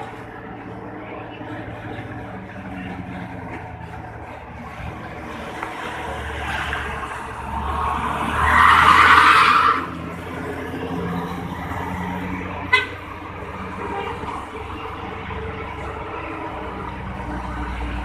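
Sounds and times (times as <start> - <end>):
vehicle engines running: 0.0 - 18.0.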